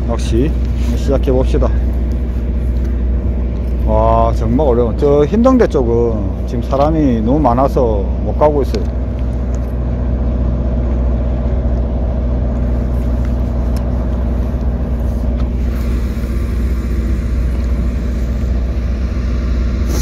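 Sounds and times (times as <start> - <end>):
construction machinery engine drone: 0.0 - 20.0.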